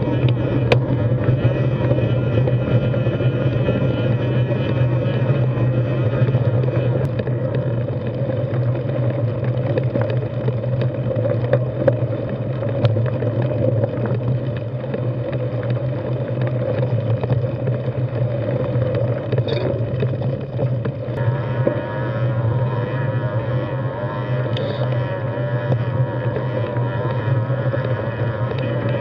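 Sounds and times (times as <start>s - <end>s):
bike tyres rumbling over rocky dirt: 0.0s - 29.0s.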